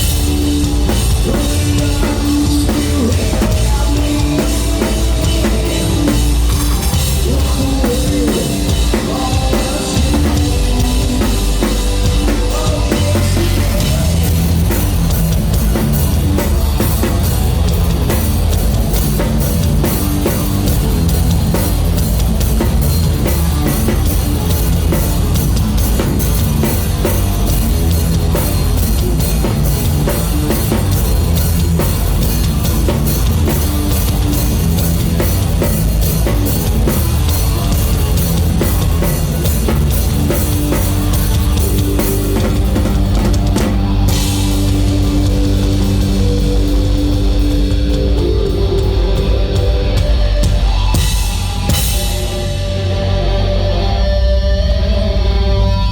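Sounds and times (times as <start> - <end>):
drum kit beat: 0.0 - 54.6
rock band playing live: 0.0 - 55.9.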